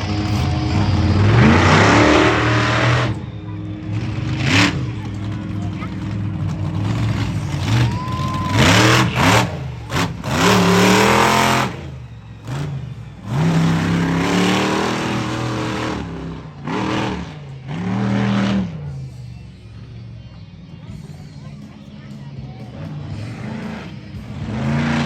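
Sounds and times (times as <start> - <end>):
engine revving hard: 0.0 - 19.0, 22.8 - 25.0.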